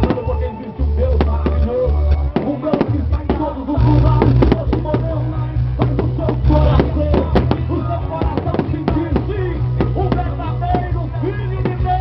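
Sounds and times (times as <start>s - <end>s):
bass-heavy music over loudspeakers: 0.0s - 12.0s
fireworks popping and banging: 0.0s - 12.0s.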